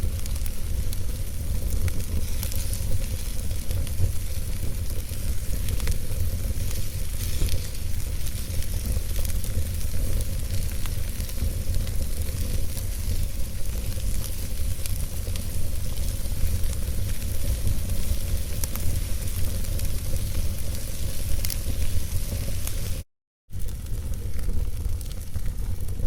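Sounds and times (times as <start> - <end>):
fire crackles and pops: 0.0 - 26.0
wood fire burning: 0.0 - 26.0.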